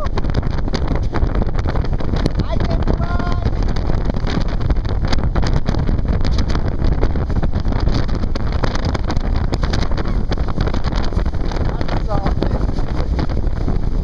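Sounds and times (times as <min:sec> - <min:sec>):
jet boat running: 0:00.0 - 0:14.0
water noise: 0:00.0 - 0:14.0
wind buffeting microphone: 0:00.0 - 0:14.0.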